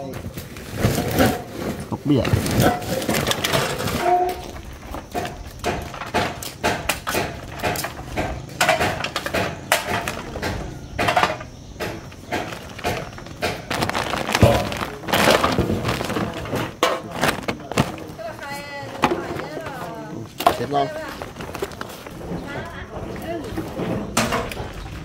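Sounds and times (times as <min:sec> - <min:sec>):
plastic sacks rustling: 0:00.0 - 0:06.4, 0:11.1 - 0:25.0
plastic bottles knocking together: 0:00.0 - 0:25.0.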